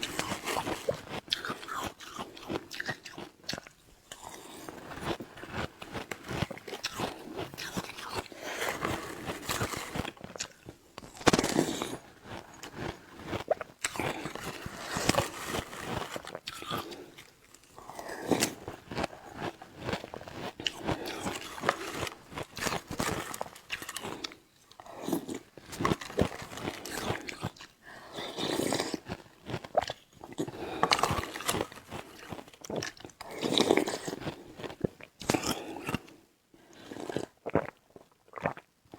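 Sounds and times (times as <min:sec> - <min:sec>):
chewing crunchy ice: 0:00.0 - 0:38.7.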